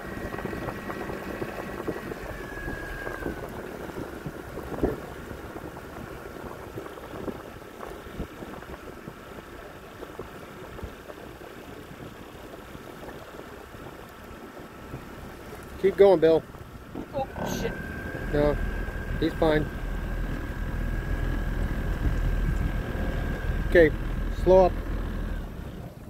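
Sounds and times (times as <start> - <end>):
boat motor whining: 0.0 - 9.5, 12.3 - 26.0
water and wind noise: 0.0 - 26.0.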